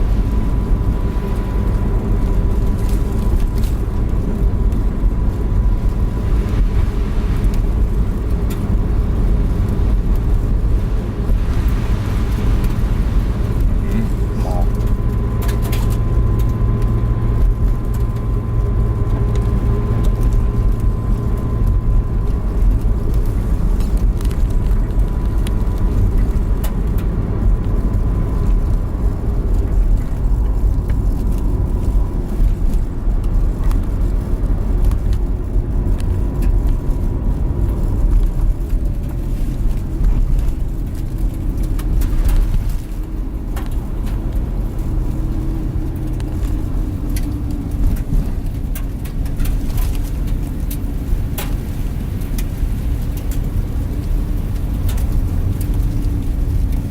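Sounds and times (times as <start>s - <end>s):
engine and tyre rumble: 0.0s - 56.9s.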